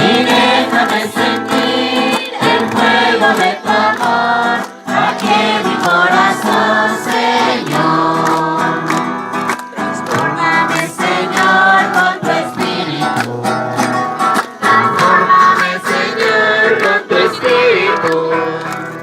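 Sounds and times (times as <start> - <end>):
group singing a hymn: 0.0 - 19.0
guitar strumming: 0.0 - 19.0.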